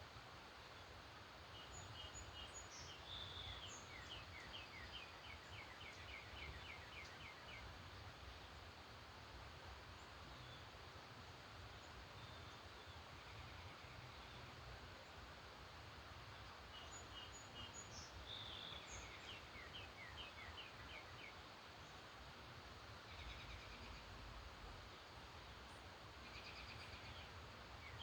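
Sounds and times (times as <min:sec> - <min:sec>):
low steady hiss: 0:00.0 - 0:28.0.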